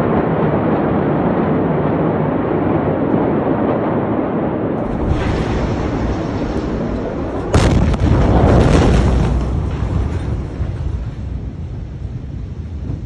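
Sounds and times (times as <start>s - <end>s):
explosion boom and rumble: 0.0s - 13.0s.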